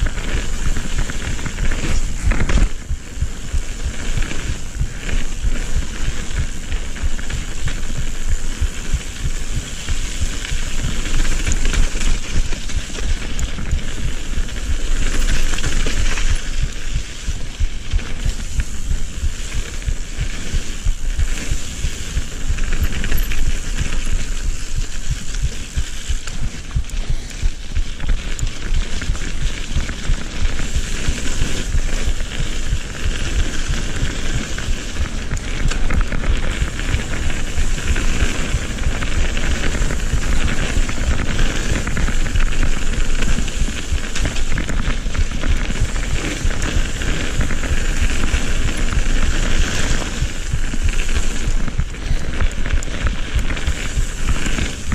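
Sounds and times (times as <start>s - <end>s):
bike rattling over bumps: 0.0s - 54.9s
bike tyres crunching on gravel: 0.0s - 54.9s
wind buffeting microphone: 0.0s - 54.9s.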